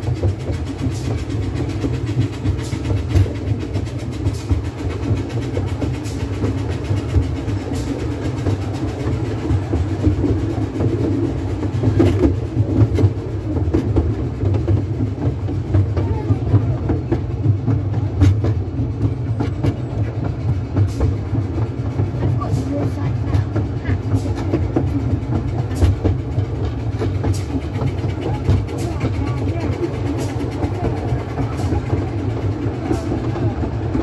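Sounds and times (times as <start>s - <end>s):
wheels clicking over rail joints: 0.0s - 34.0s
wheels rumbling on rail: 0.0s - 34.0s.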